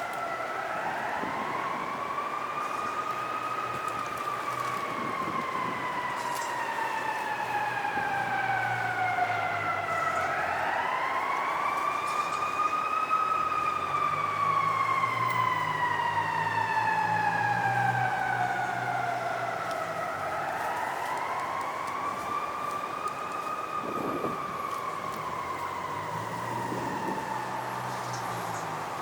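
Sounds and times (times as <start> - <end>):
emergency siren wailing: 0.0 - 29.0.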